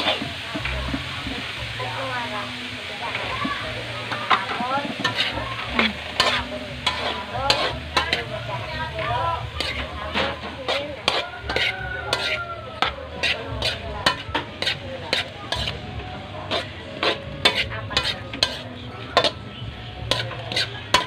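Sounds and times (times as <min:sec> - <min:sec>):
spatula scraping a wok: 0:00.0 - 0:21.0
vegetables sizzling: 0:00.0 - 0:21.0.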